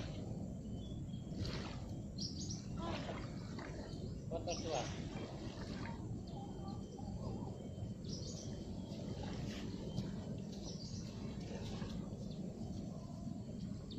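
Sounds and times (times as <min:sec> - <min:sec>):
low background rumble: 0:00.0 - 0:13.9.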